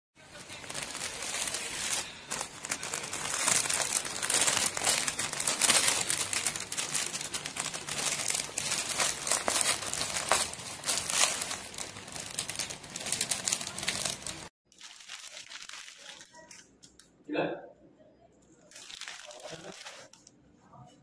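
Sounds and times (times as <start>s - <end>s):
plastic packaging crinkling: 0.2s - 16.7s, 18.7s - 20.3s.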